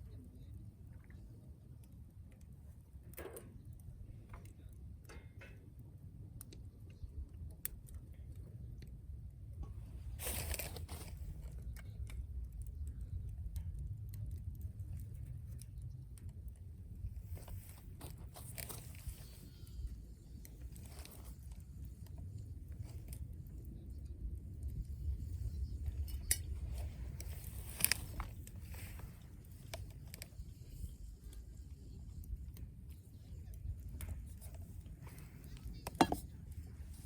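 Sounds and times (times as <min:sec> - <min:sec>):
campfire crackling and popping: 0:00.1 - 0:37.0.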